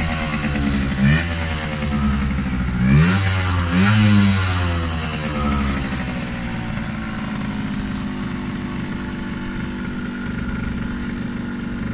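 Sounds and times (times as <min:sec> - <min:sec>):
two-stroke engine idling: 0:00.0 - 0:11.9.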